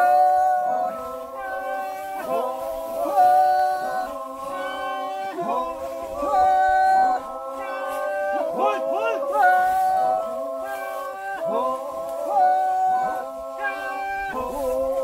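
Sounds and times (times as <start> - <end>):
group chanting unaccompanied: 0.0 - 15.0.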